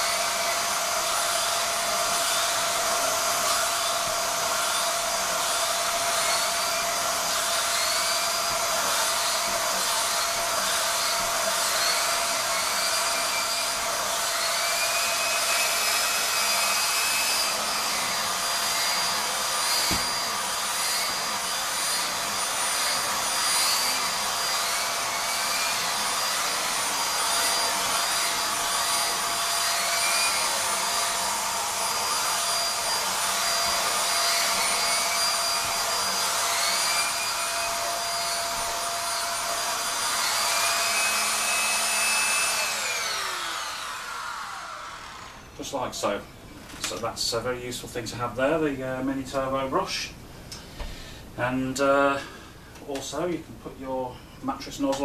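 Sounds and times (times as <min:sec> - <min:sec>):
vacuum motor winding down: 0:00.0 - 0:45.7
vacuum cleaner running: 0:00.0 - 0:46.0.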